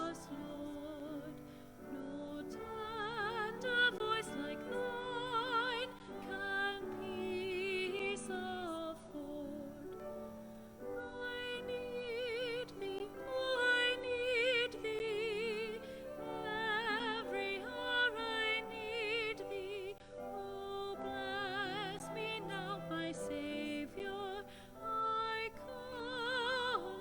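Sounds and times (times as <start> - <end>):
slow classical music: 0.0 - 27.0.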